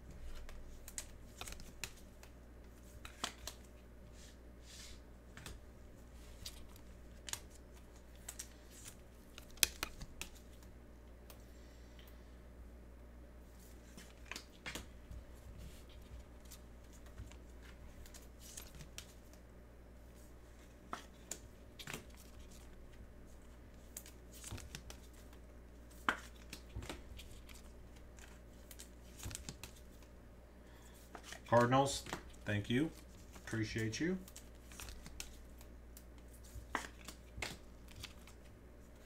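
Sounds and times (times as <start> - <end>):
faint low hum: 0.0 - 39.0
cards and packaging rustling: 0.1 - 10.7, 15.5 - 19.4, 20.2 - 30.1, 30.8 - 39.0.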